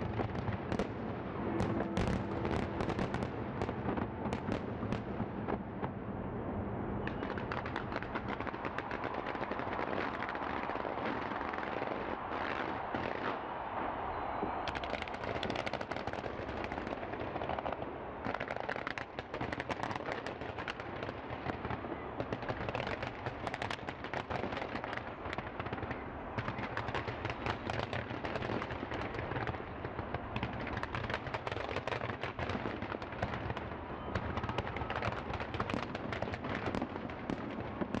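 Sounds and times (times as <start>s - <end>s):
fireworks bangs and crackling: 0.0s - 6.3s, 7.0s - 38.0s.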